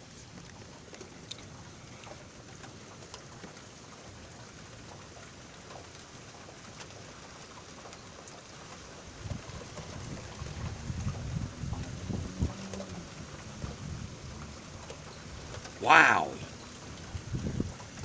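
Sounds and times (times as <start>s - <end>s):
light rain hissing: 0.0s - 18.0s
rain drips: 0.0s - 18.0s.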